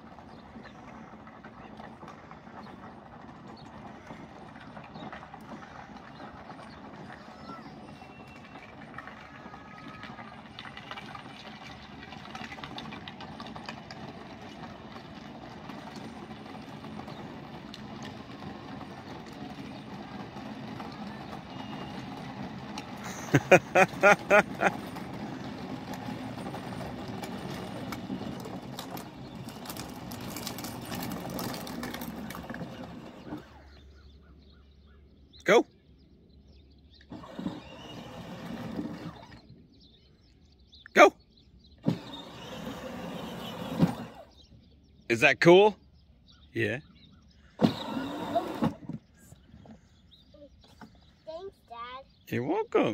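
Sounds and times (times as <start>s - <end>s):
atv motor running: 0.0s - 52.9s.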